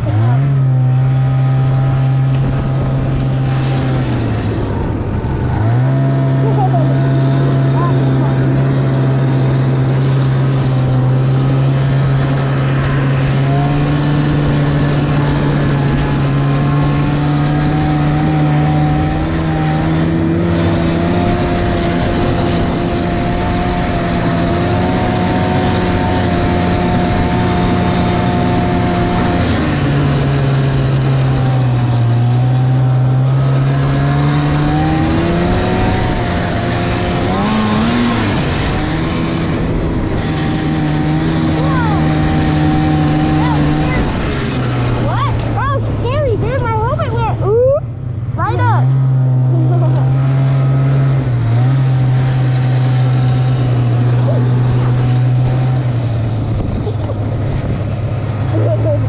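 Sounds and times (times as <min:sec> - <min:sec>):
snowmobile engine revving: 0:00.0 - 0:59.0
track noise: 0:00.0 - 0:59.0
wind: 0:00.0 - 0:59.0.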